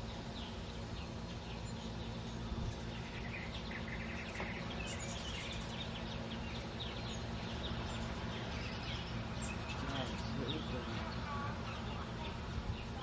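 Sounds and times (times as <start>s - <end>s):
hummingbirds chirping: 0.0s - 13.0s
steady low rumble: 0.0s - 13.0s.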